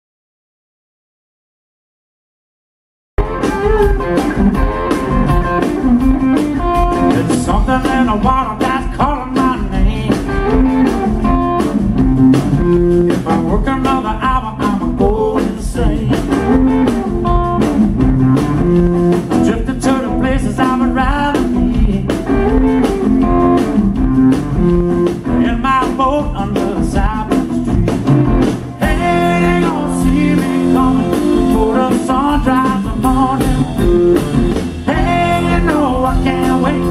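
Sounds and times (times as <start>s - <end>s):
bass guitar: 3.2s - 36.9s
drum kit: 3.2s - 36.9s
electric guitar: 3.2s - 36.9s.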